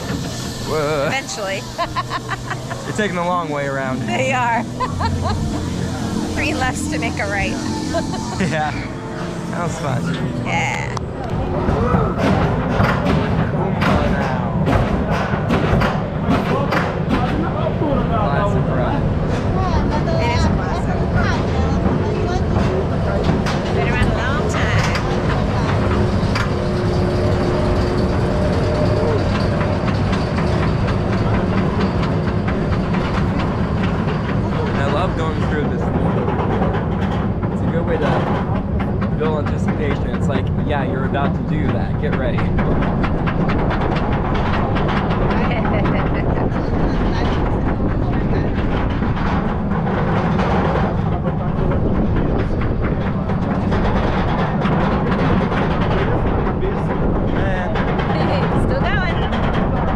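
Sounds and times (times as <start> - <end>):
roller coaster chain clicking: 0.0 - 10.2, 10.8 - 59.9
roller coaster rumble: 0.0 - 59.9.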